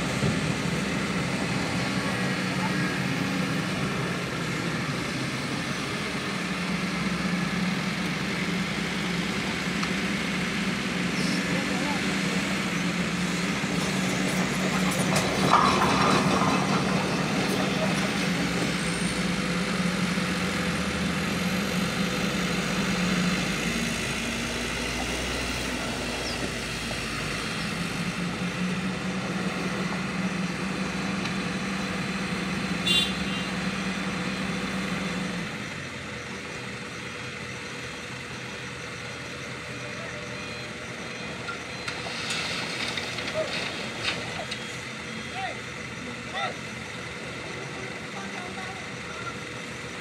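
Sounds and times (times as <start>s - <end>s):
diesel engines humming: 0.0s - 50.0s.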